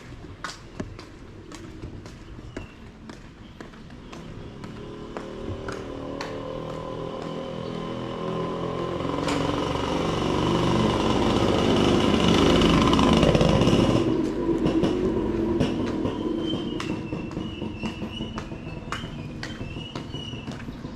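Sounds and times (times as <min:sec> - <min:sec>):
motor vehicle engine passing: 0:00.0 - 0:20.9.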